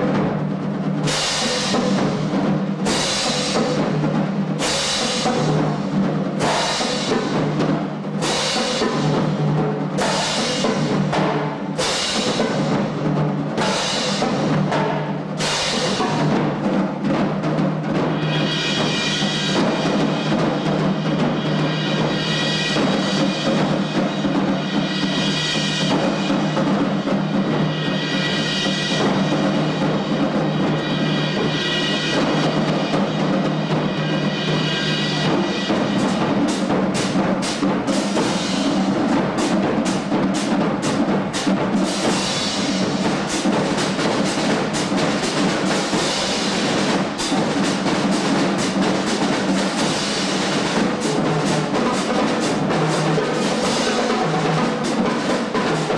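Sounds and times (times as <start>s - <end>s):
heavy percussion hits: 0.0s - 55.9s
marching band playing: 0.0s - 55.9s.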